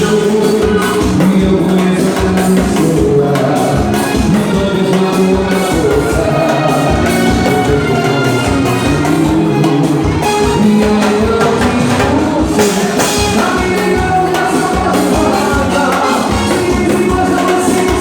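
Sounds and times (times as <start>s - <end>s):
person singing: 0.0s - 18.0s
steady drum beat: 0.0s - 18.0s.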